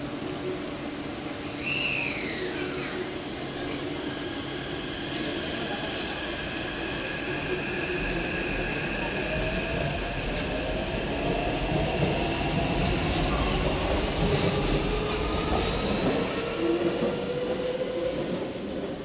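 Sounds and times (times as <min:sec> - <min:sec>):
train rolling rumble: 0:02.2 - 0:19.0.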